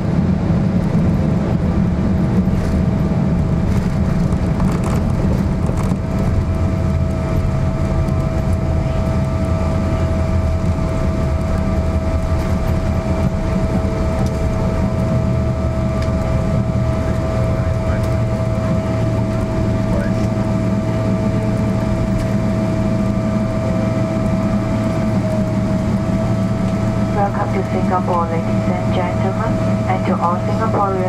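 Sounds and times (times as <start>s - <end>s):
airplane landing rumble: 0.0s - 31.0s
jet engine whine: 0.0s - 31.0s.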